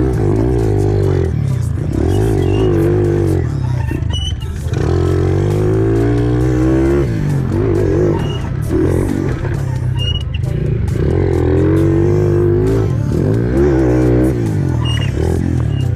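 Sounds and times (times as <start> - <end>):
background music: 0.0 - 15.9
pit bike engines revving: 0.0 - 15.9.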